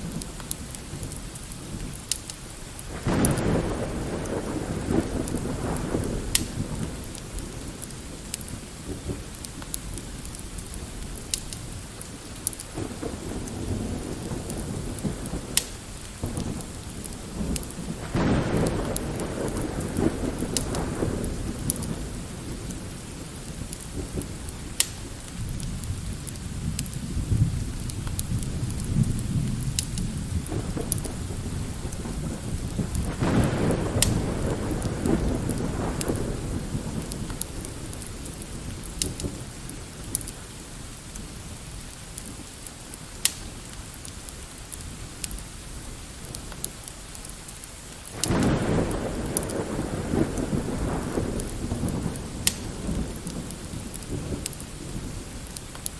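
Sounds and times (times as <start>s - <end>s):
light rain: 0.0s - 55.9s
log fire crackling: 0.0s - 55.9s
distant rolling thunder: 2.8s - 40.6s, 48.1s - 55.8s.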